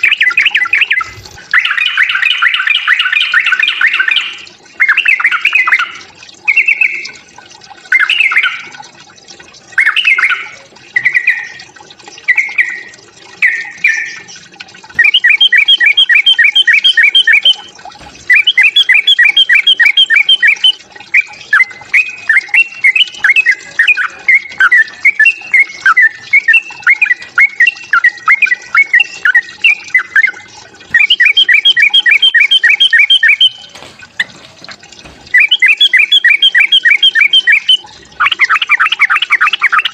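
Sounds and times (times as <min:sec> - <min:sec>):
bulbul song: 0:00.0 - 0:39.9.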